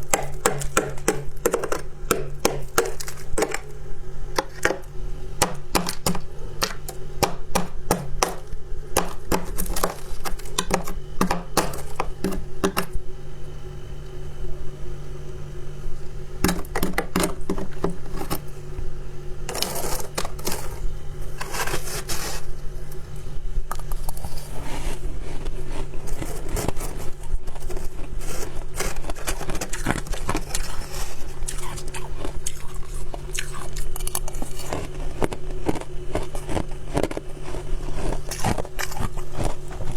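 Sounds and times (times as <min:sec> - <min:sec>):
ice crunching being chewed: 0:00.0 - 0:13.0, 0:19.5 - 0:39.9.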